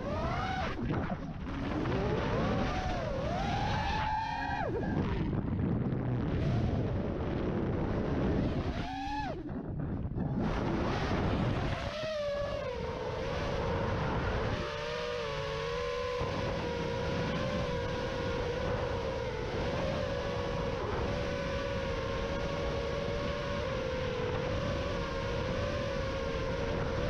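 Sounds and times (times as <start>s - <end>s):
drone motors whining: 0.0s - 27.0s
wind rushing on microphone: 0.0s - 27.0s.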